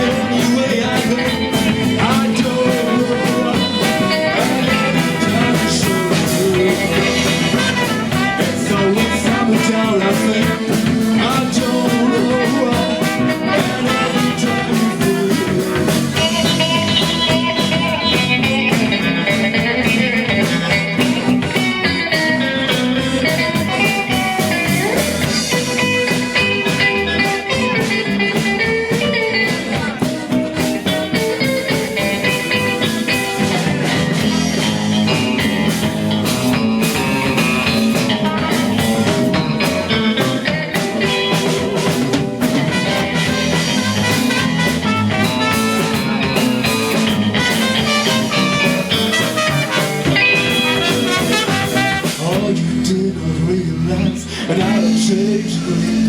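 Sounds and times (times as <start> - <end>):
electric guitar solo: 0.0 - 52.4
drum kit: 0.0 - 56.0
live rock band playing: 0.0 - 56.0.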